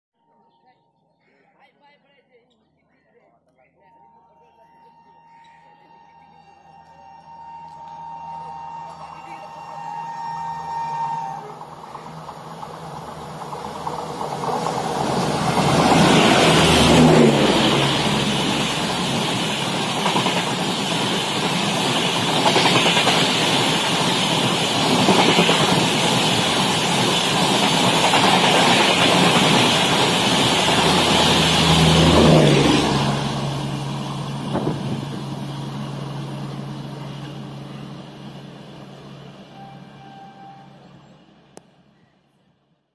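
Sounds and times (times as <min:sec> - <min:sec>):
train wheels rushing on rails: 0:06.7 - 0:41.6.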